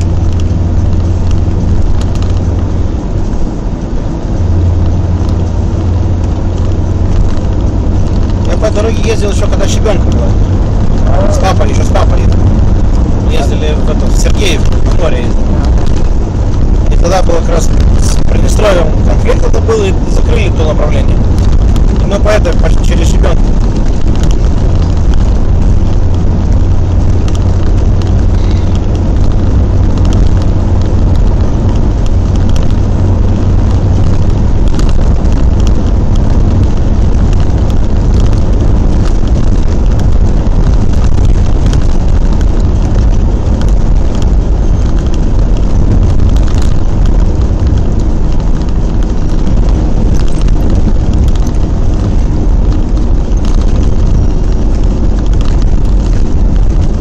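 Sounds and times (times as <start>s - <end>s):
vehicle engine and tyres rumbling: 0.0s - 57.0s.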